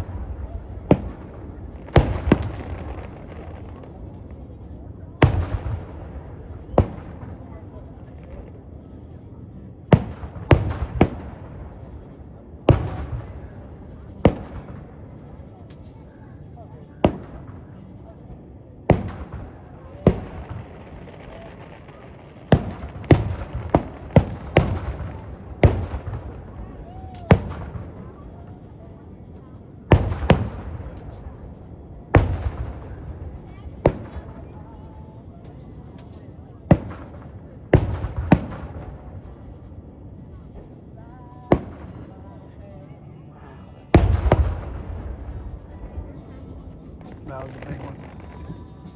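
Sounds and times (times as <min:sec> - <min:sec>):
fireworks bangs: 0:00.0 - 0:09.0, 0:09.9 - 0:18.2, 0:18.9 - 0:40.8, 0:43.9 - 0:48.9.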